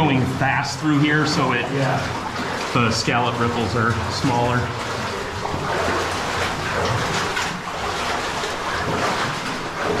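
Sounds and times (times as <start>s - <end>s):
cave stream water rushing: 0.0s - 10.0s.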